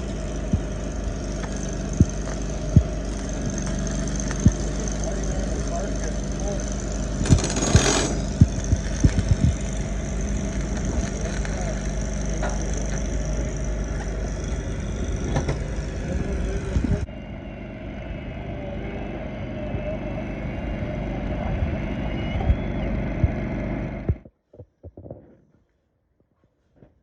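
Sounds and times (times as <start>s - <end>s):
heavy machinery engine running: 0.0s - 24.3s.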